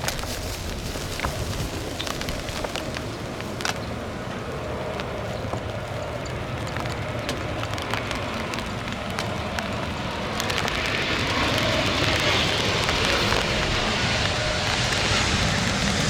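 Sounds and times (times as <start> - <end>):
distant jet engines rumbling: 0.0 - 16.0
gusty wind on microphone: 0.0 - 16.0.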